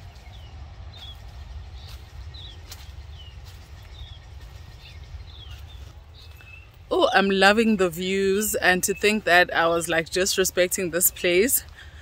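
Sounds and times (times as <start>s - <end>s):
birds chirping: 0.0s - 12.0s
low rumble: 0.0s - 12.0s.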